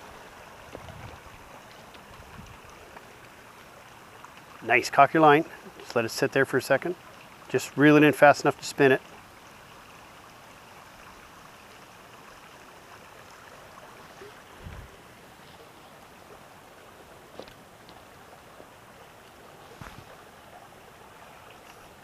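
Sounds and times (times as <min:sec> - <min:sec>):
brook running over stones: 0:00.0 - 0:22.0.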